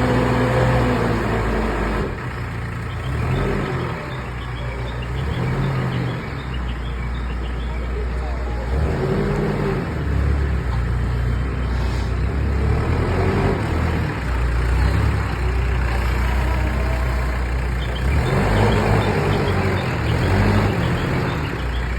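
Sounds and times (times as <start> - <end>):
diesel engine revving: 0.0 - 21.9.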